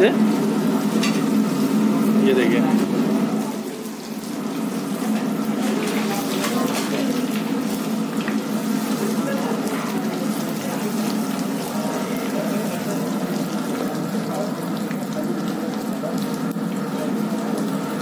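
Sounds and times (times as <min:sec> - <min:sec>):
oil bubbling and sizzling: 0:00.0 - 0:18.0.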